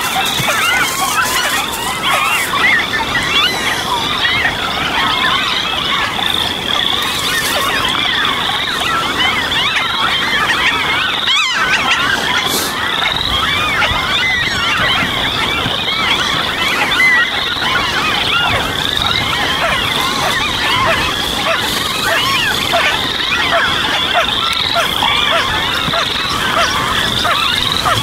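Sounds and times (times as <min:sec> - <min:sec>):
chorus of wetland birds calling: 0:00.0 - 0:28.0.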